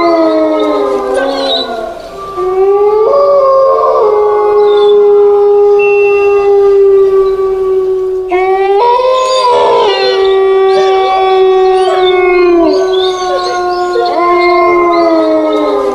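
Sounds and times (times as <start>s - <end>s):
dogs howling: 0.0s - 15.9s.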